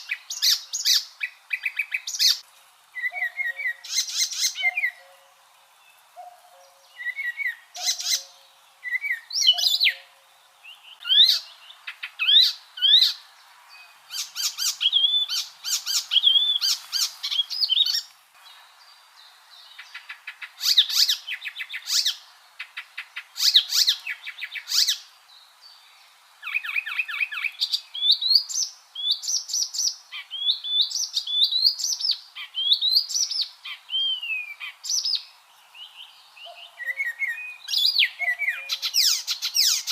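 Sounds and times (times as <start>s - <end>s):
warbler singing: 3.0s - 39.9s.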